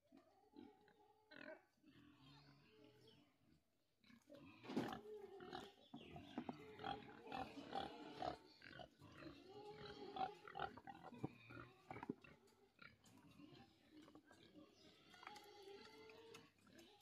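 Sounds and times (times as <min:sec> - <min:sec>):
pig grunting and squealing: 0:00.2 - 0:03.3, 0:04.0 - 0:17.0.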